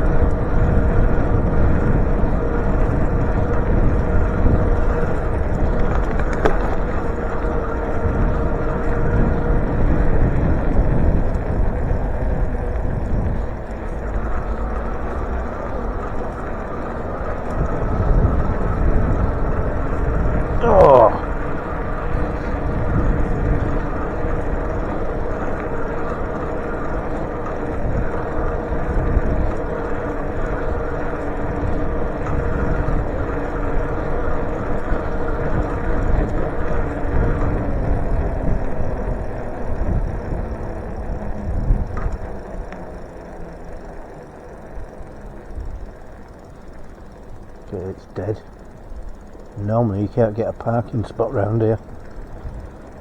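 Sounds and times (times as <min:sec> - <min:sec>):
electric motor whine: 0:00.0 - 0:53.0
tyre noise: 0:00.0 - 0:53.0
wind rumbling on microphone: 0:00.0 - 0:53.0.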